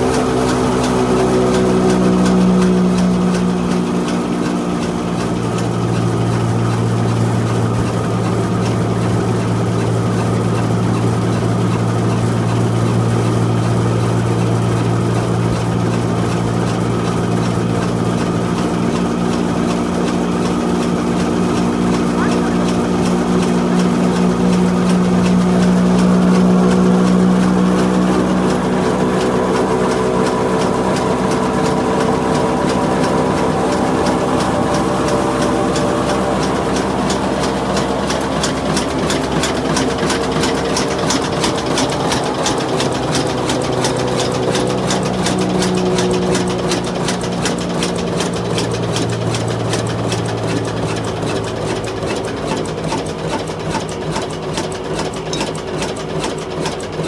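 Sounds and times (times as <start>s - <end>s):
old diesel engine knocking: 0.0s - 57.0s.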